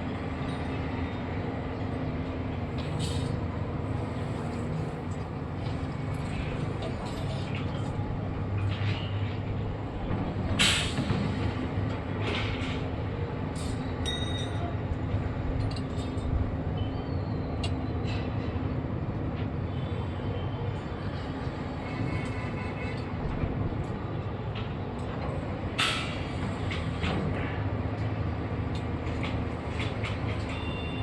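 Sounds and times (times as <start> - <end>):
heavy engine low rumble: 0.0 - 31.0.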